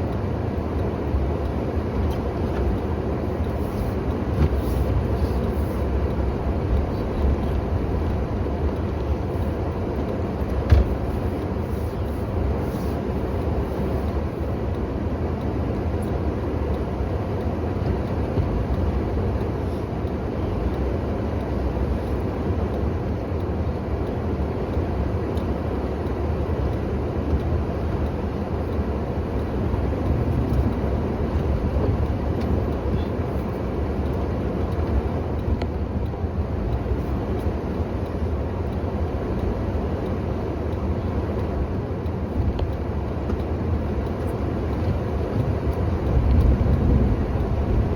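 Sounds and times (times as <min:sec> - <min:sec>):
engine running with low rumble: 0:00.0 - 0:47.9.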